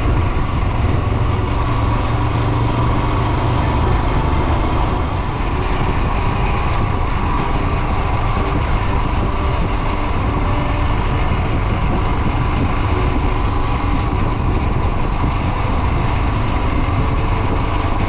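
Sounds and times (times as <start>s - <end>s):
background music: 0.0s - 18.0s
motorcycle engine running: 0.0s - 18.0s
road and wind rumble: 0.0s - 18.0s.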